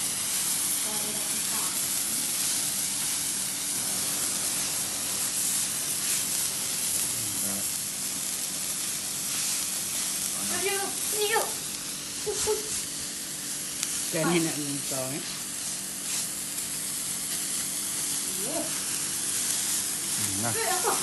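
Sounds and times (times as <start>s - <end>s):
firework hissing sparks: 0.0s - 21.0s.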